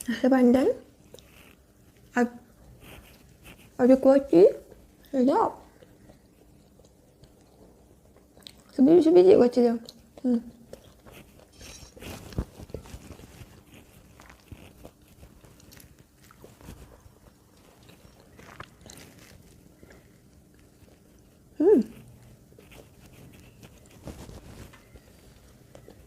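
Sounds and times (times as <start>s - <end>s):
chewing and crunching: 0.9s - 26.0s.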